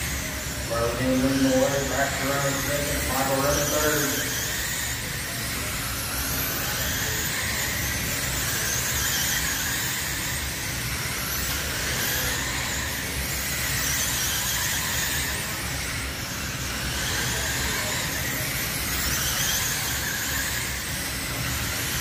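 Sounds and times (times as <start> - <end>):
remote control car motors whining: 0.0 - 22.0.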